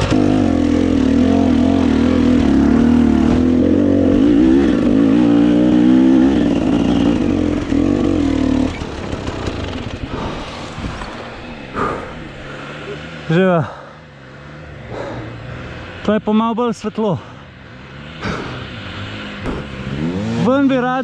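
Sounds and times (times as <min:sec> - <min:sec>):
dirt bike engine: 0:00.0 - 0:21.0.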